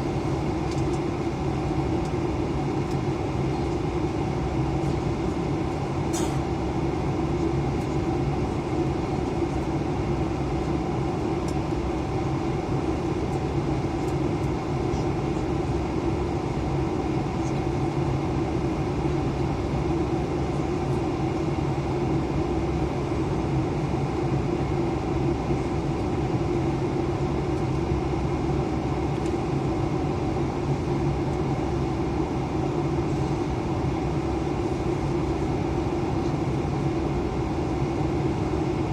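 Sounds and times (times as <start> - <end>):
airliner cabin engine drone: 0.0 - 38.9
constant hums: 0.0 - 38.9.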